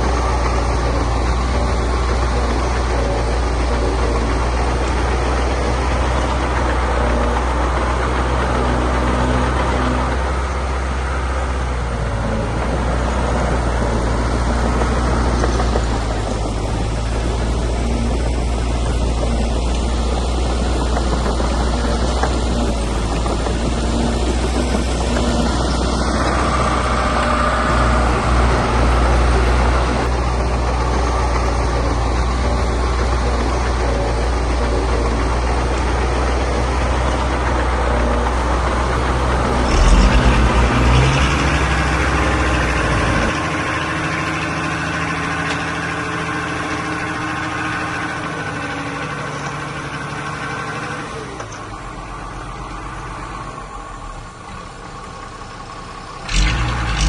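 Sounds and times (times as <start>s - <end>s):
engine rattling burst: 0.0s - 57.0s
heavy diesel engine running: 0.0s - 57.0s.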